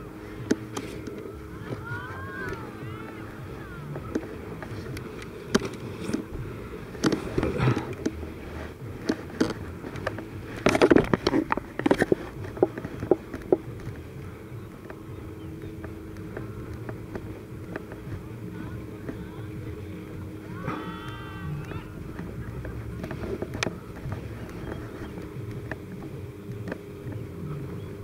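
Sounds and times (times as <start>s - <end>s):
distant paramotor engines droning: 0.0s - 28.0s.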